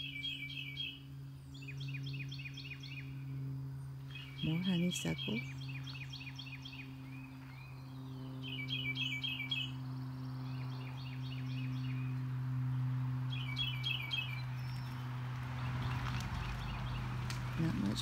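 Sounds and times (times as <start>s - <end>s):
songbirds singing: 0.0s - 18.0s
steady low hum: 0.0s - 18.0s.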